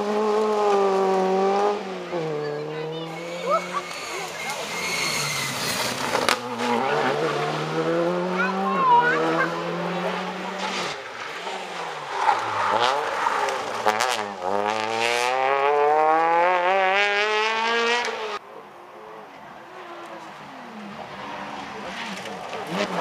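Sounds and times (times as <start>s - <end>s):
rally car engine revving: 0.0s - 18.4s, 19.6s - 23.0s
distant car engine: 0.0s - 23.0s.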